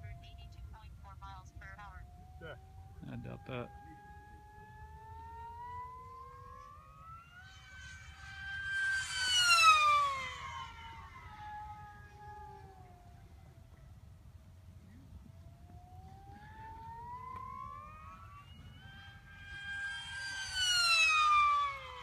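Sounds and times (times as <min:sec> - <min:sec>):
model airplane motor whining: 0:02.1 - 0:22.0.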